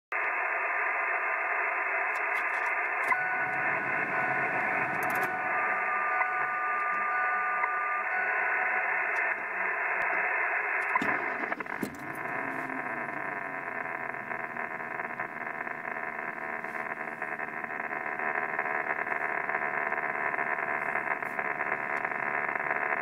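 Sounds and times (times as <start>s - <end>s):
radio hiss and static: 0.1s - 23.0s.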